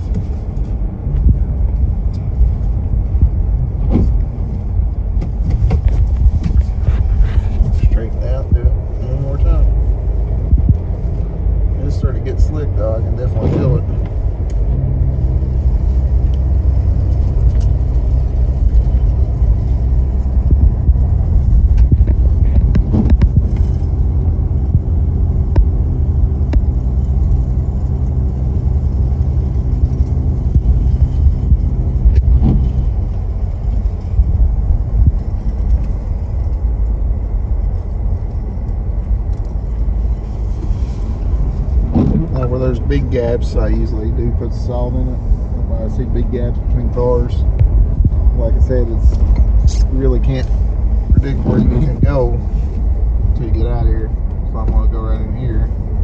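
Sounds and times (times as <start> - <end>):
droning hum: 0.0 - 56.0
engine and road rumble: 0.0 - 56.0.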